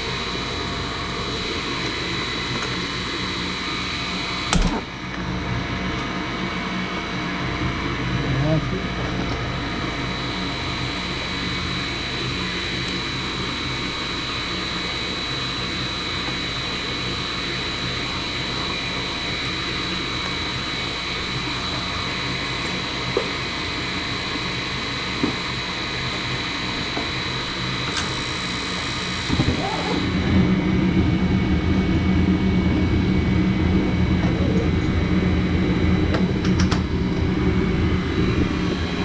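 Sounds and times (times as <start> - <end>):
furnace air rush and motor: 0.0 - 39.0
high whine: 0.0 - 39.0.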